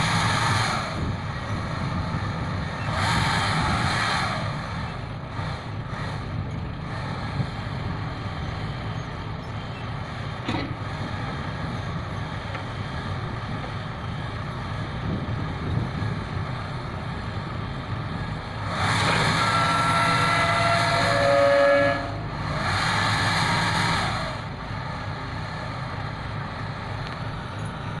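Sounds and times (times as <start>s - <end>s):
diesel construction machinery rumbling: 0.0s - 28.0s.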